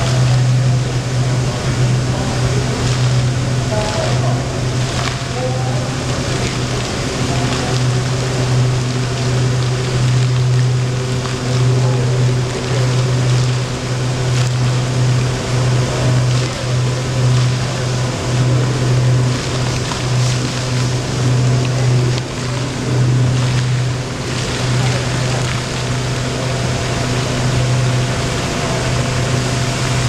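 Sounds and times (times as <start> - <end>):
fountain jets splashing: 0.0 - 30.0
loud low hum: 0.0 - 30.0.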